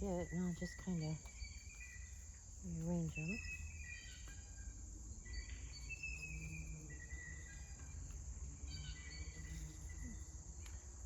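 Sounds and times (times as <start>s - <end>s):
high-pitched insect drone: 0.0s - 10.8s
songbirds chirping: 0.0s - 11.0s.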